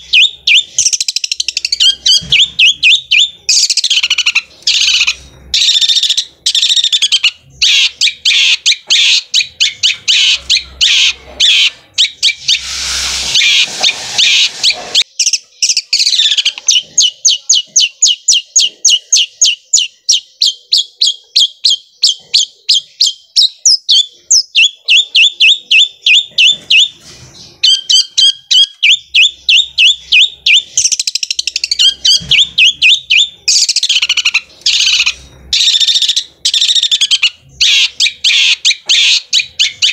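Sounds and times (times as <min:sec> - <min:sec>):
bird singing scratchy chatter: 0:00.0 - 0:39.9.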